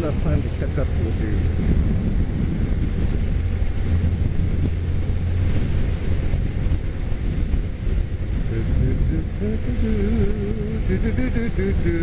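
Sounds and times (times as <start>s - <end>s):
motorcycle engine and road noise: 0.0s - 12.0s
wind rush over microphone: 0.0s - 12.0s.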